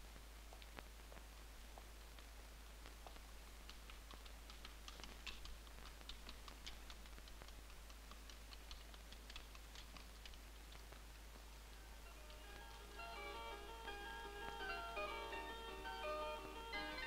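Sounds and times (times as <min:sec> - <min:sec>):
light clicks and ticks: 0:00.5 - 0:15.4.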